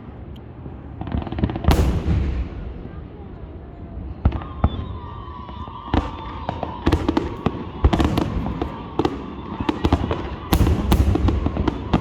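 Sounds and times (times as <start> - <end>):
fireworks bangs and cracks: 1.0 - 12.0.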